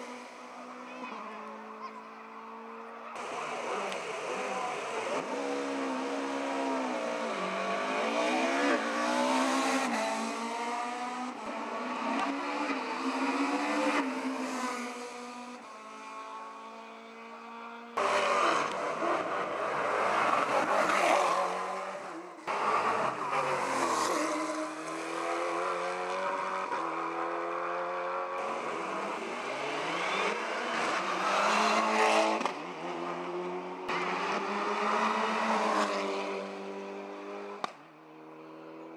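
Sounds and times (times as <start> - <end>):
race car engines accelerating: 0.0 - 38.9.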